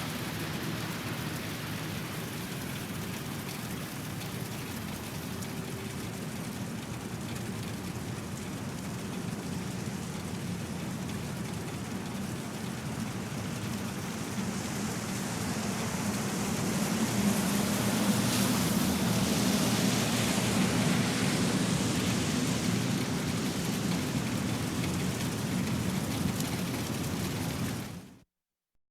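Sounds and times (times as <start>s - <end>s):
tyres hissing on wet road: 0.0s - 6.8s, 7.5s - 28.1s
rain on pavement: 0.0s - 28.2s.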